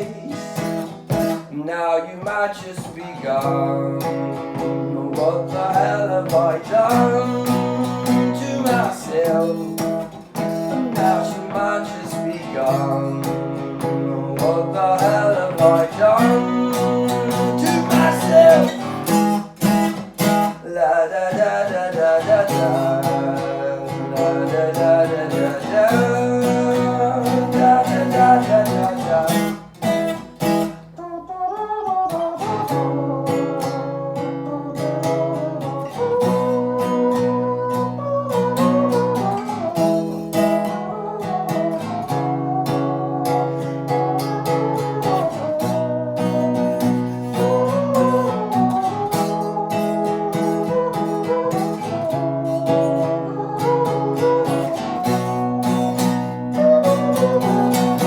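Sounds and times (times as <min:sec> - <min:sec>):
acoustic guitar strumming chords: 0:00.0 - 0:58.0.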